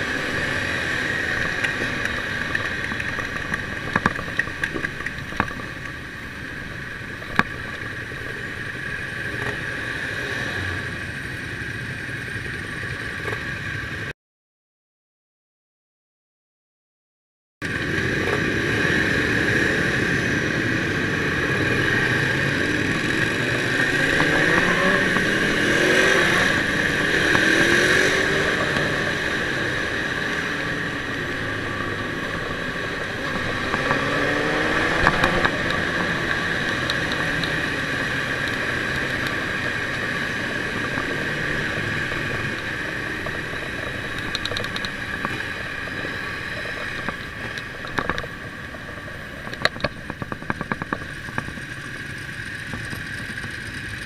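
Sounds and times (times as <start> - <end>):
motorcycle engine accelerating: 0.0 - 14.1, 17.6 - 54.0
riding wind noise: 0.0 - 14.1, 17.6 - 54.0.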